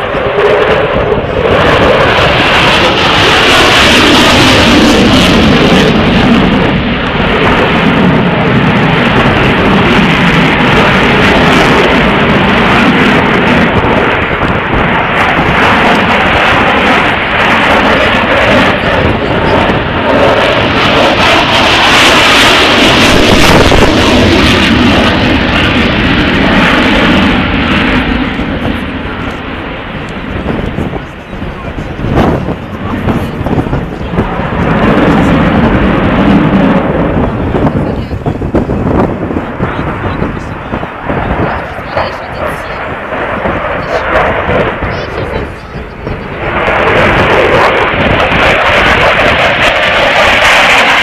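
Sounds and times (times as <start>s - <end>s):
jet engines roaring overhead: 0.0s - 51.0s.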